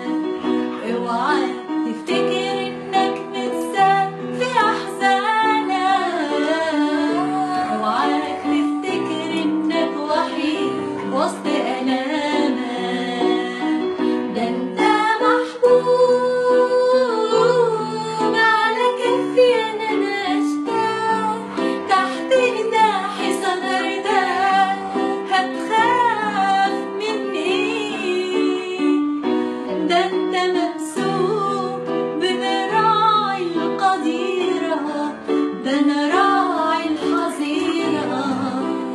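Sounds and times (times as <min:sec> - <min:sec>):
instrumental accompaniment: 0:00.0 - 0:38.9
person singing a hymn: 0:00.0 - 0:38.9.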